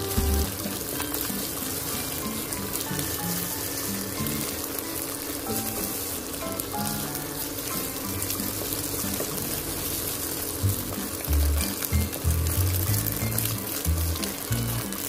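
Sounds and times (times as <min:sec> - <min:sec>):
background music: 0:00.0 - 0:15.0
egg sizzling in hot oil: 0:00.0 - 0:15.0
spatula stirring in wok: 0:00.0 - 0:15.0.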